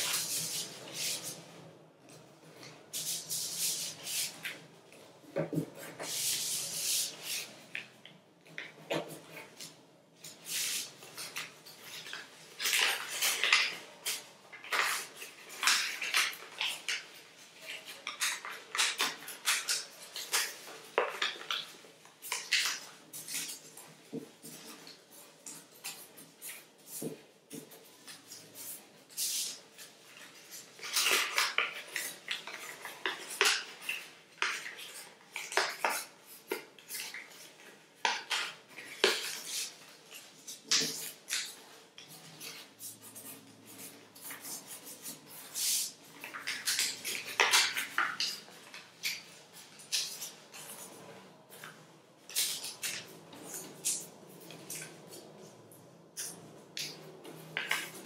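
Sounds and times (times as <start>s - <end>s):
paper rustling and crinkling: 0.0s - 55.5s, 56.2s - 58.0s.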